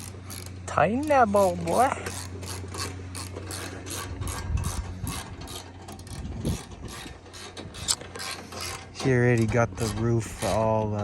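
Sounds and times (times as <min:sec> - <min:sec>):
ratchet wrench clicking: 0:00.0 - 0:09.1.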